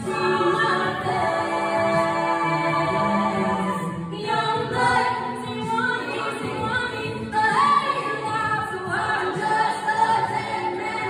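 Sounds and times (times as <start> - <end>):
a cappella group singing in harmony: 0.0 - 11.0
female lead voice singing: 0.0 - 11.0.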